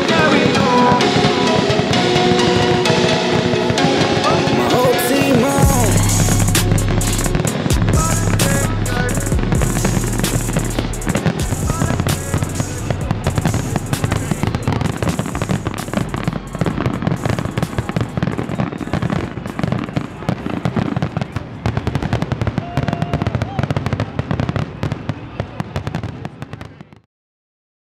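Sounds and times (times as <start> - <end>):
fireworks bangs: 0.0 - 27.0
fireworks crackling and popping: 0.0 - 27.0.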